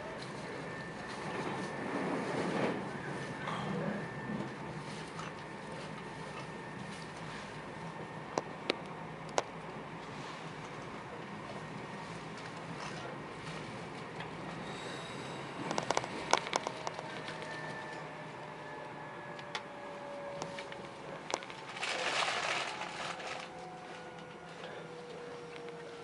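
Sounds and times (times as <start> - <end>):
electric train running hum: 0.0 - 26.0.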